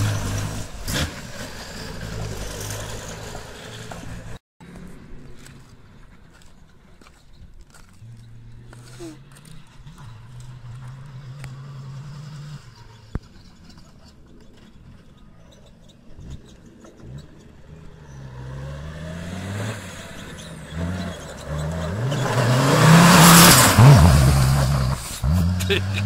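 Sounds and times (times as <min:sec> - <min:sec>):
diesel engine revving: 0:00.0 - 0:04.4, 0:07.8 - 0:26.0.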